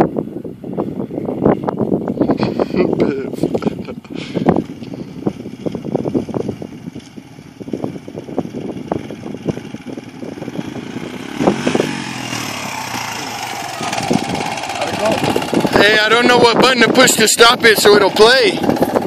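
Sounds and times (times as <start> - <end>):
dirt bike engine running: 3.6 - 19.0.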